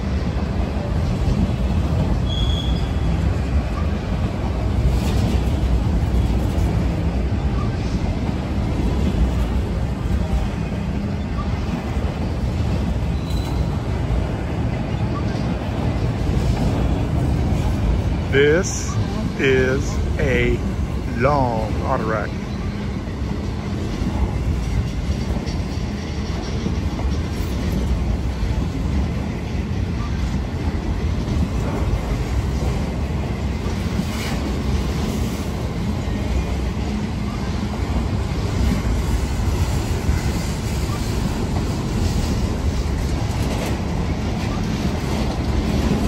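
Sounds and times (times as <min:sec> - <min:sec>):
freight train wheels rumbling on rails: 0:00.0 - 0:46.0.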